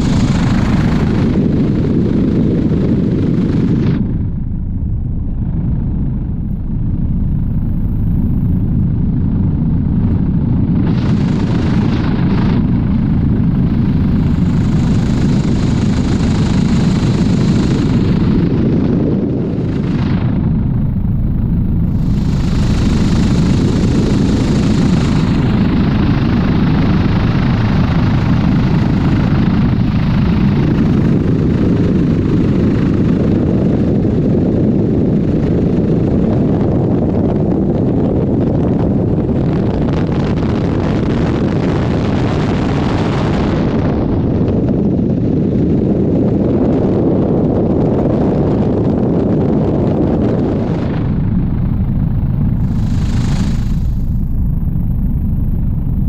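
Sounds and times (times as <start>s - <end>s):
helicopter rotor and engine rumble: 0.0s - 56.0s
wind rushing over microphone: 0.0s - 56.0s.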